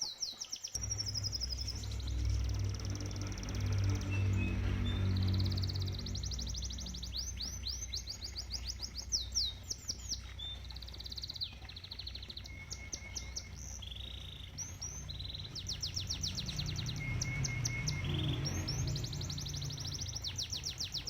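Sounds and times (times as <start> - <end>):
pond water running: 0.0 - 21.0
canary singing: 0.6 - 21.0.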